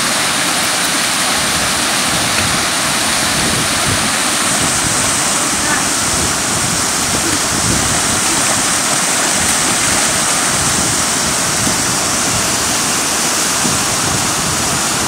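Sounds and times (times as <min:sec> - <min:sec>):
waterfalls rushing over rocks: 0:00.0 - 0:15.0.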